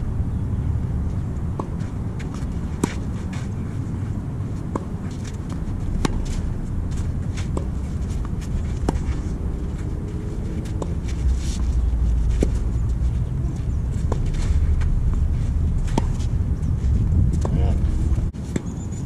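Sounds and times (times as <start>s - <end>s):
low rumble: 0.0s - 18.4s
tennis ball bouncing on court: 1.2s - 3.5s, 4.5s - 17.6s
racket striking tennis ball: 1.2s - 17.6s.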